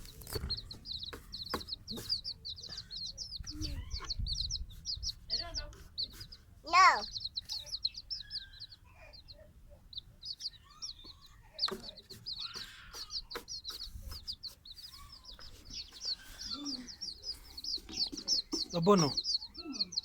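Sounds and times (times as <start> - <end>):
baby chicks peeping: 0.0 - 20.0.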